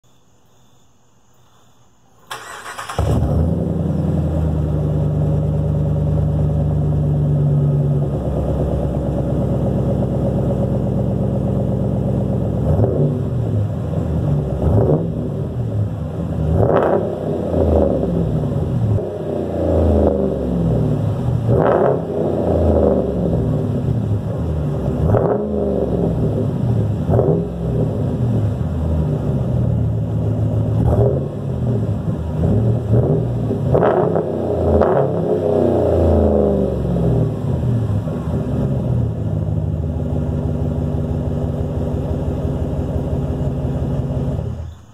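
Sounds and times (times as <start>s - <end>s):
pickup truck engine revving: 2.3s - 44.7s.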